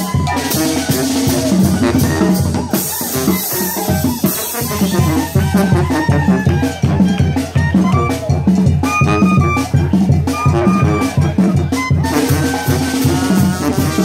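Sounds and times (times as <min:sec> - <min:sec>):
brass melody: 0:00.0 - 0:14.0.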